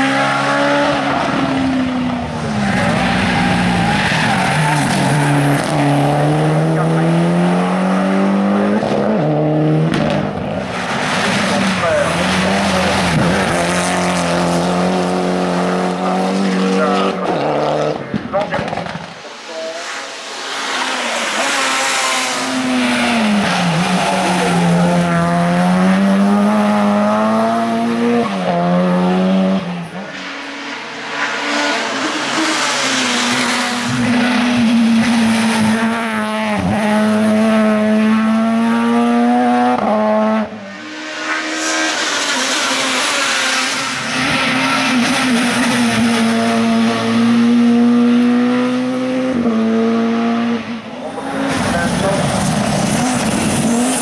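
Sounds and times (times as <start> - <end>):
race cars revving past: 0.0 - 54.0.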